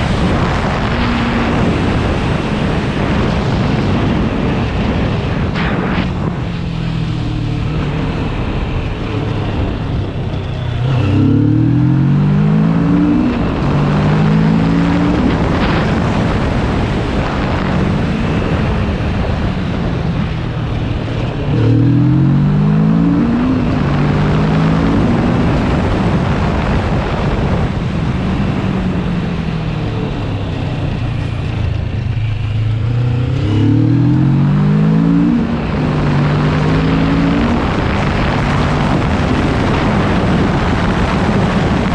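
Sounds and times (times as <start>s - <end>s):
motorcycle engine revving through gears: 0.0s - 41.9s
wind noise: 0.0s - 41.9s.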